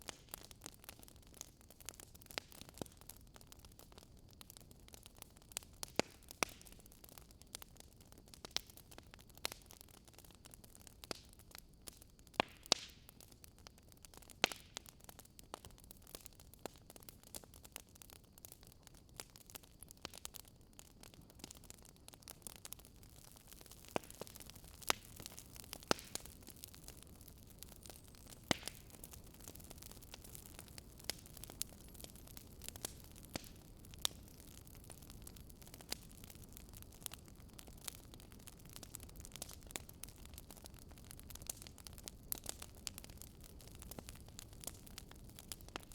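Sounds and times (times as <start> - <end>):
faint steady hiss: 0.0 - 45.9
wood fire crackling: 0.0 - 45.9.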